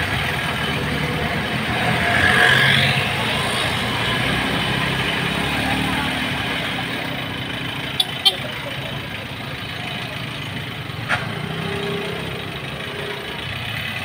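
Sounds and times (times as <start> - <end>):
street traffic noise: 0.0 - 14.0
vehicle engine pulling away: 0.0 - 14.0.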